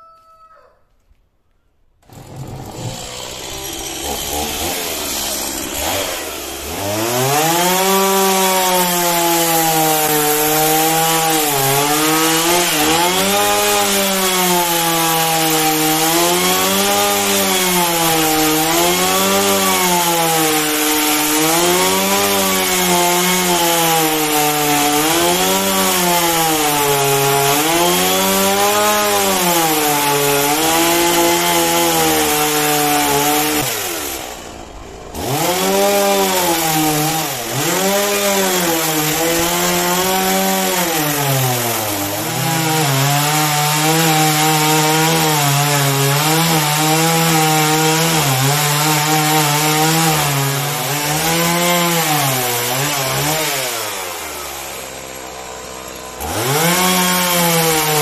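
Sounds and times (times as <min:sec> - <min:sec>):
chainsaw cutting wood: 0:02.0 - 0:58.0.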